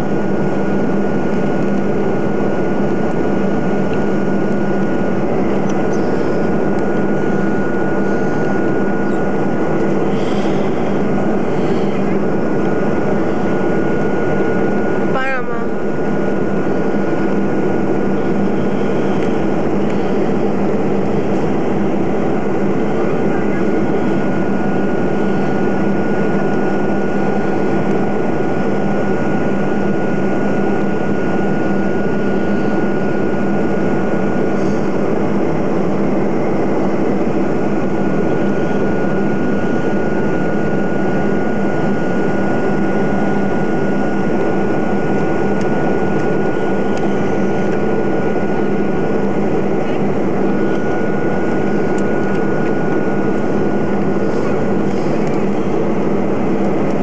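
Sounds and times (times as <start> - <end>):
airliner cabin engine noise: 0.0 - 57.0.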